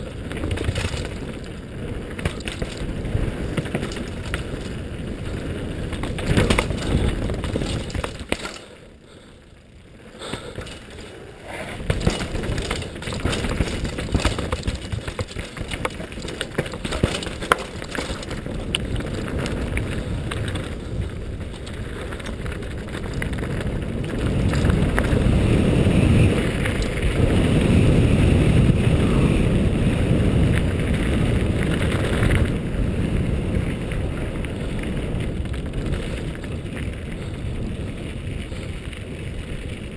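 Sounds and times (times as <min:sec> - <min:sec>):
wind noise: 0:00.0 - 0:09.3, 0:09.9 - 0:39.9
bike chain and frame rattling: 0:00.0 - 0:39.9
bike tyres crunching on stones: 0:00.0 - 0:39.9.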